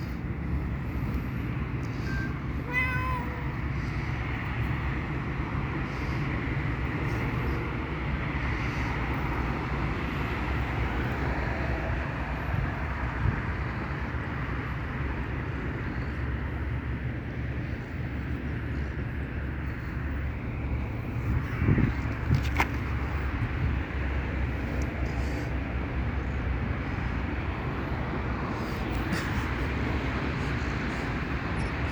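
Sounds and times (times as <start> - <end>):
street traffic rumble: 0.0 - 31.9.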